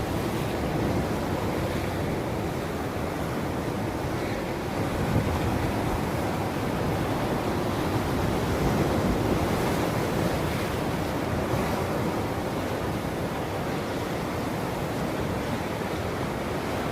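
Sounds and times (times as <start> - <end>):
ocean waves washing onto shore: 0.0 - 16.9.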